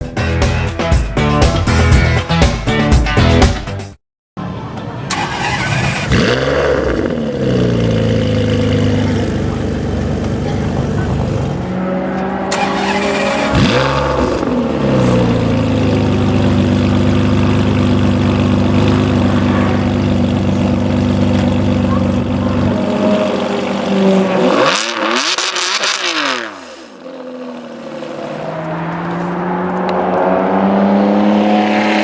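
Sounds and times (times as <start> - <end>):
loud car engine revving: 5.0 - 32.0.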